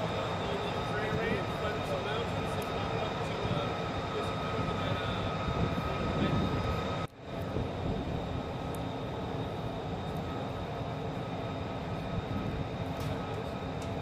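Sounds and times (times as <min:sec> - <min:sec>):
jet turbine engines running: 0:00.0 - 0:14.0.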